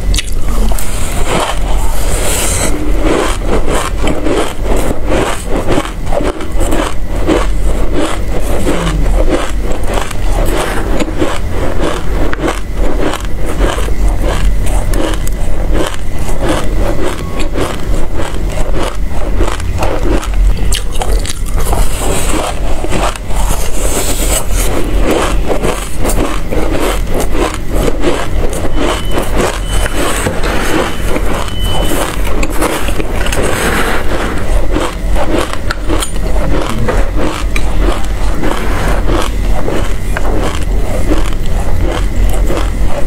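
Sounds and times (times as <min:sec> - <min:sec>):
crunching seeds being chewed: 0:00.0 - 0:43.0.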